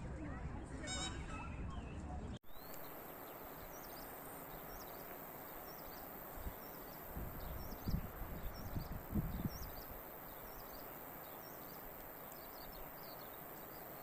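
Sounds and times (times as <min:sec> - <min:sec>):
small birds chirping: 0:00.5 - 0:14.0
outdoor background hiss: 0:02.4 - 0:14.0.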